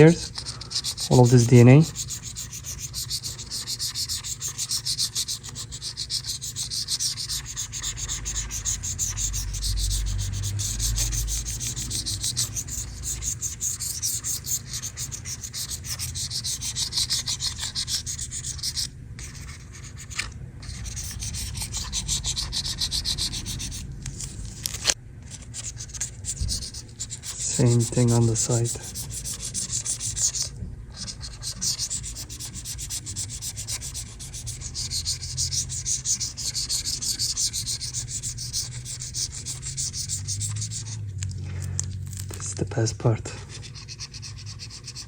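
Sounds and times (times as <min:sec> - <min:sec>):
scrubbing and scraping grime: 0:00.0 - 0:45.0.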